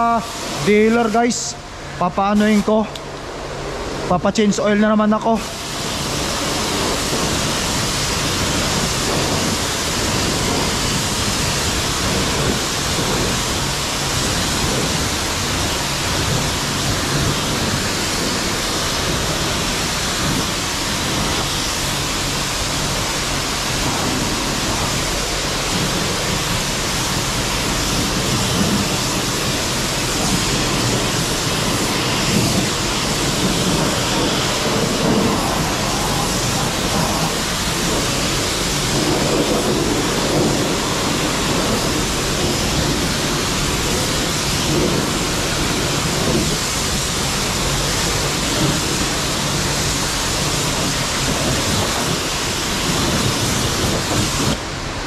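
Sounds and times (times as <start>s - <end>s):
high-pressure water spray: 0.0s - 55.0s.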